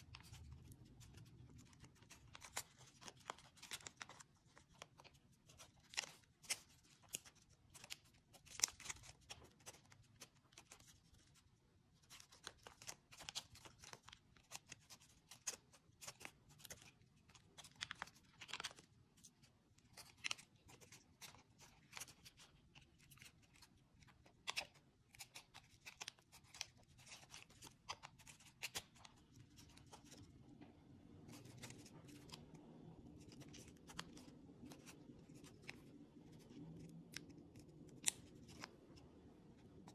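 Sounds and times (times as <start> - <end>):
paper crinkling as folded: 0.0 - 30.3, 31.2 - 38.7
faint low hum: 0.0 - 39.9.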